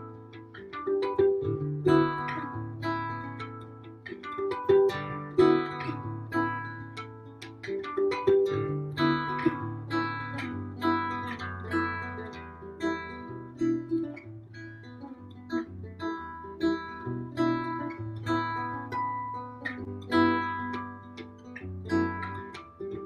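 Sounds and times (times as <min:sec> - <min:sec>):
fingerstyle acoustic guitar: 0:00.0 - 0:23.0.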